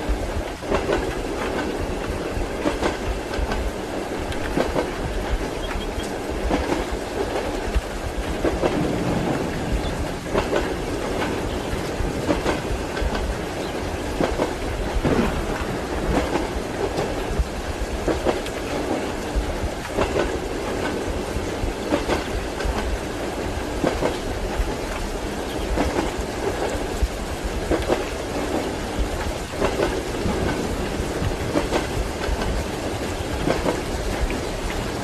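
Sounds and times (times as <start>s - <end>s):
rain: 0.0s - 35.0s
train wheels clattering over rail joints: 0.1s - 35.0s.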